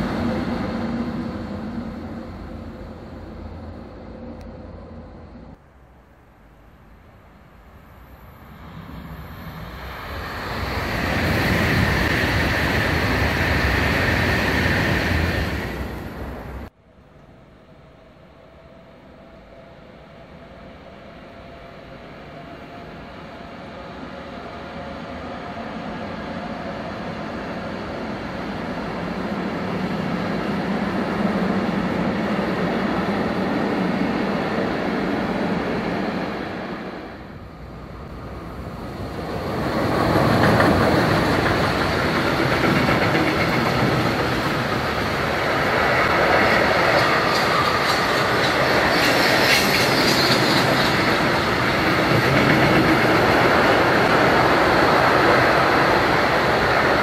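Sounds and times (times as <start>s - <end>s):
freight train passing: 0.0s - 57.0s.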